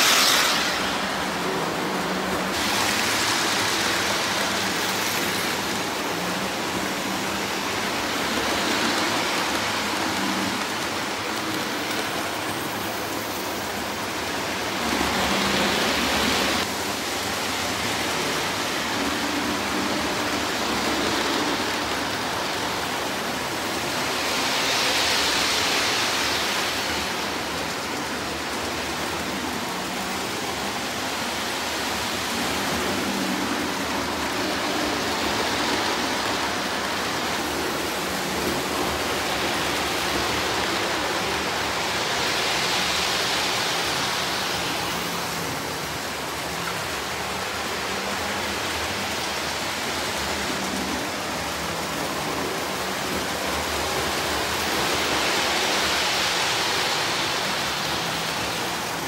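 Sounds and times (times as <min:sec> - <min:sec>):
model train rolling hum: 0:00.0 - 0:59.0.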